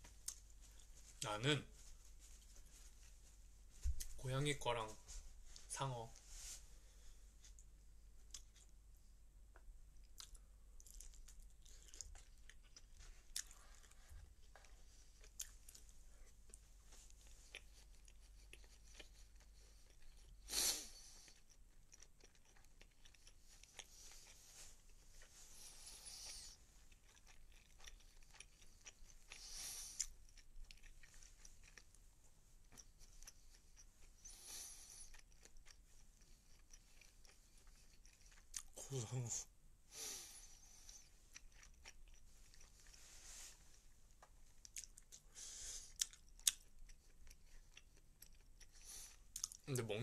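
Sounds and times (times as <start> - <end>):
chewing and crunching food: 7.4 - 8.8, 10.0 - 39.2, 40.1 - 50.0.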